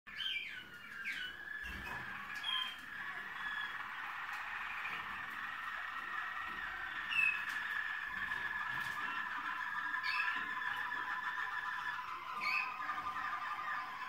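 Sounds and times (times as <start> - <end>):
canaries singing trills: 0.1 - 14.0.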